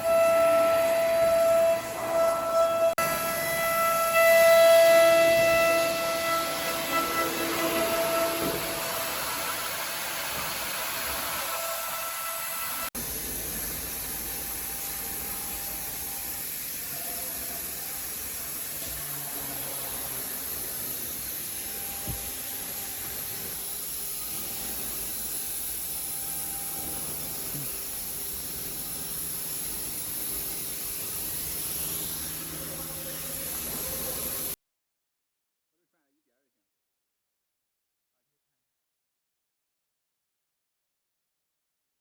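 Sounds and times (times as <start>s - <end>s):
cnc router hissing: 0.0s - 34.6s.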